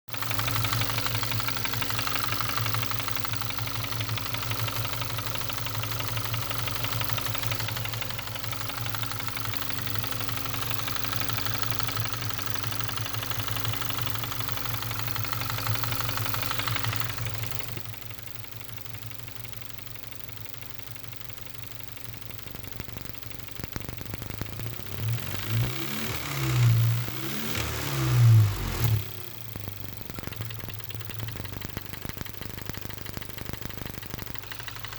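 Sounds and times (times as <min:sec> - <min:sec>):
engine idling with ticking: 0:00.1 - 0:34.9.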